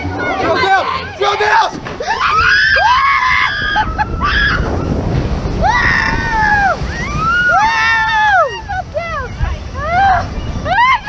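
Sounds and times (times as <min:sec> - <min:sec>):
rush of water and wind: 0:00.0 - 0:11.0
people screaming: 0:00.3 - 0:11.0.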